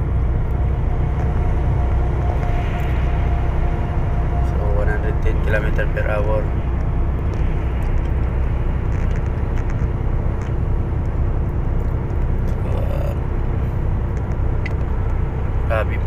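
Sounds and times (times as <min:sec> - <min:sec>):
lorry engine drone: 0:00.0 - 0:16.0
tyre and road rumble: 0:00.0 - 0:16.0.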